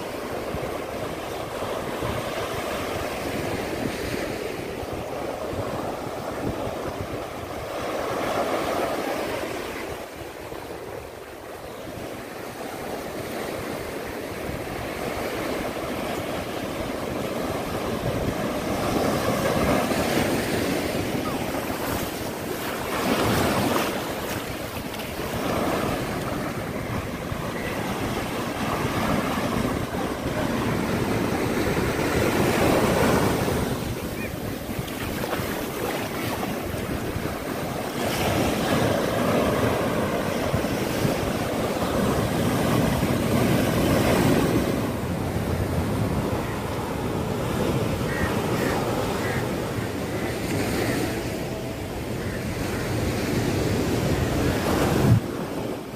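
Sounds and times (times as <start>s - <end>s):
small waves breaking on sand: 0.0s - 55.9s
wind on microphone: 0.0s - 55.9s.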